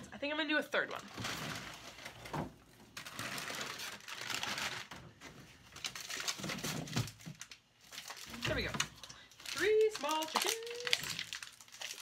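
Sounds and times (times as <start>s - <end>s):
frozen plastic bags crinkling: 0.8s - 12.0s.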